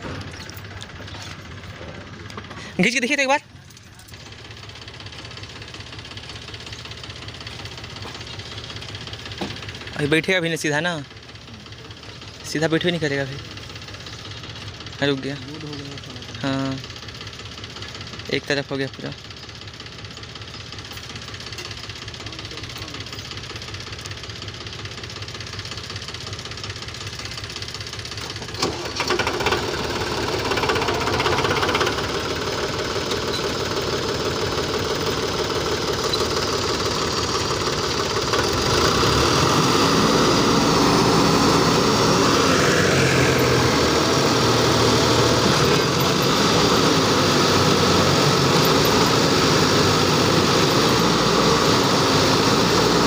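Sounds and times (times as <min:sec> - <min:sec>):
tractor diesel engine straining: 0:00.0 - 0:53.0.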